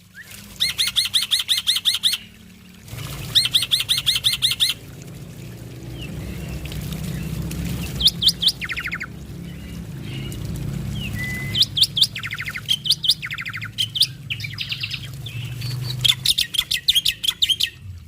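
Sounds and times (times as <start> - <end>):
low steady hum: 0.0 - 18.0
starling singing: 0.1 - 2.4, 3.3 - 4.9, 6.0 - 17.9.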